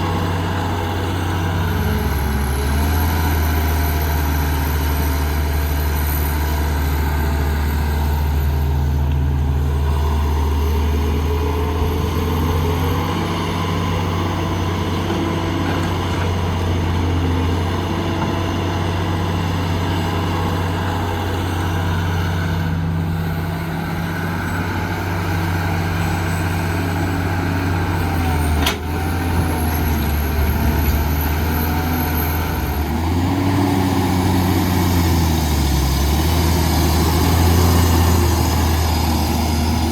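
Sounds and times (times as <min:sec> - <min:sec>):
diesel machinery engine hum: 0:00.0 - 0:39.9.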